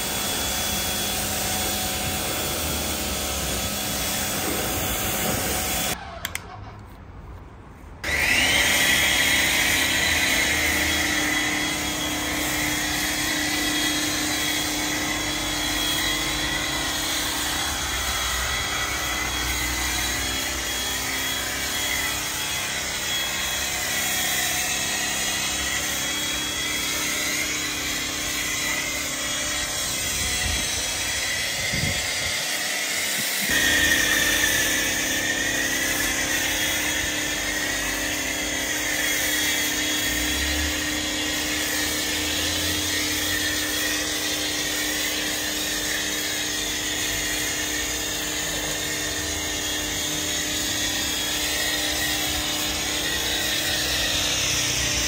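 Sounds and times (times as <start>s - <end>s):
small electric motor whining: 8.0s - 55.0s.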